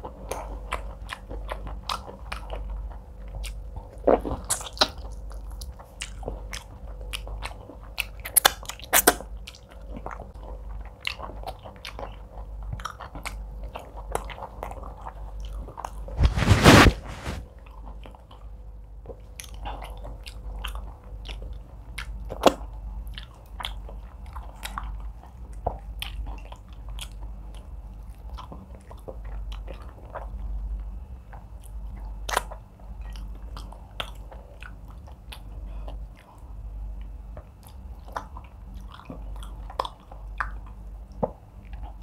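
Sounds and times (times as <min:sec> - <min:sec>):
close chewing: 0:00.0 - 0:42.0.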